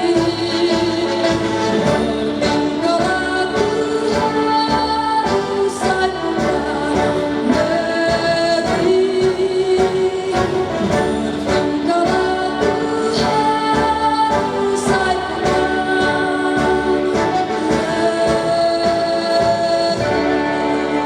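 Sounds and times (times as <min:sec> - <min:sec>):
musical accompaniment: 0:00.0 - 0:21.0.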